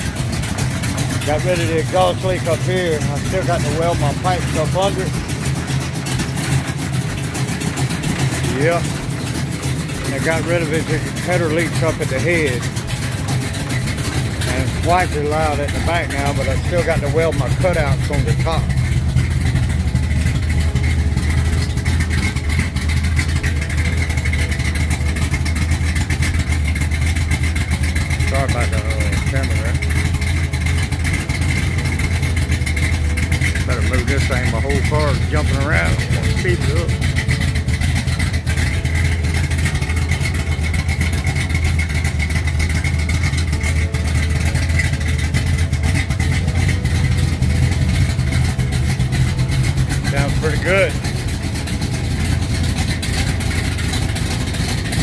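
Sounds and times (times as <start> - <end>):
car engine idling: 0.0 - 55.0
loud exhaust: 0.0 - 55.0.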